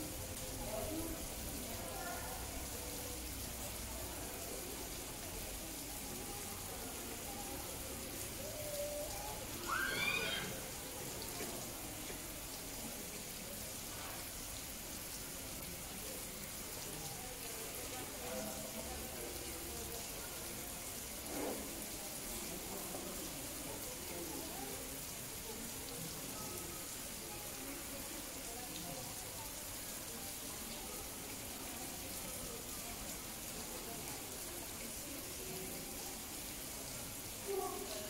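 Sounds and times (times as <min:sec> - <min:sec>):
murmur of people talking: 0:00.0 - 0:38.0.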